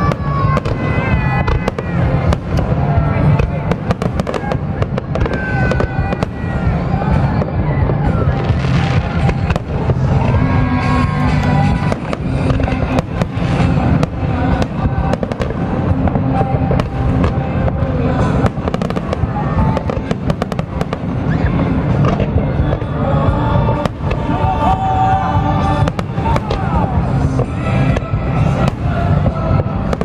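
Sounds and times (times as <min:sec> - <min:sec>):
continuous low rumble: 0:00.0 - 0:30.0
fireworks bursting with sharp cracks: 0:00.0 - 0:30.0
music playing: 0:00.0 - 0:30.0.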